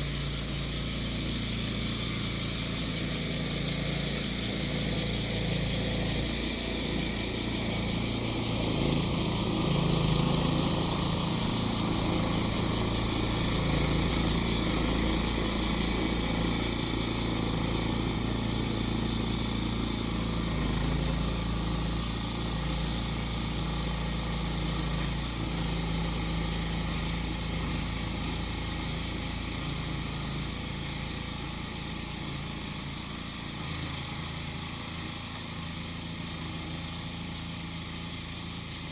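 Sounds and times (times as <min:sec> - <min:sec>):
cicadas buzzing: 0:00.0 - 0:38.9
mower engine running: 0:00.0 - 0:38.9.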